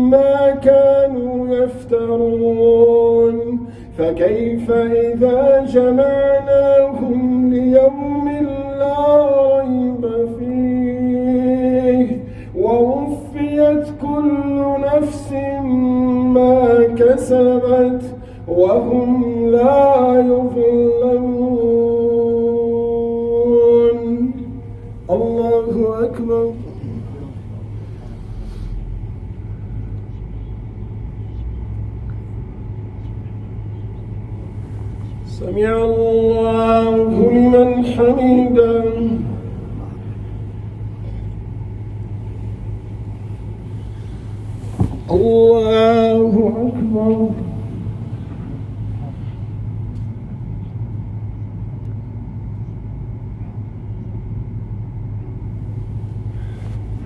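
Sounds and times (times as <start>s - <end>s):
low hum and rumble: 0.0s - 57.0s.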